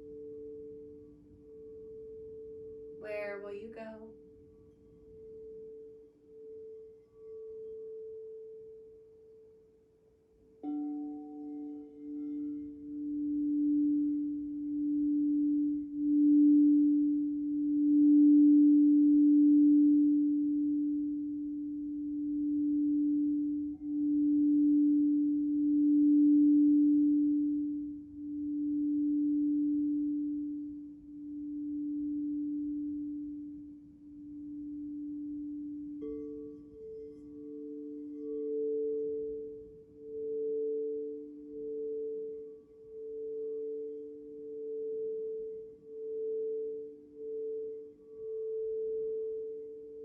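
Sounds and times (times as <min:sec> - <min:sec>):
higher singing bowl tone: 0:00.0 - 0:09.8, 0:10.5 - 0:50.0
crystal singing bowl tone: 0:00.0 - 0:50.0.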